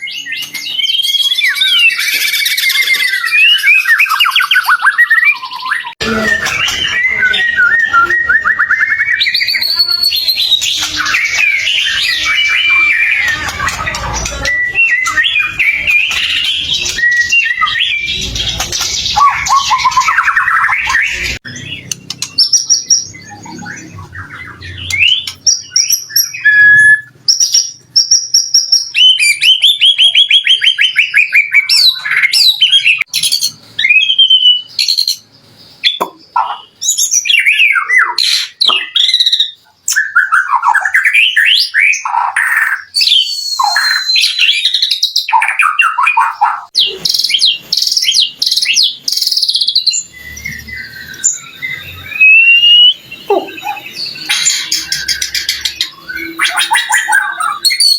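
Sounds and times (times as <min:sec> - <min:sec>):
bird singing whistles and trills: 0:00.0 - 0:57.9.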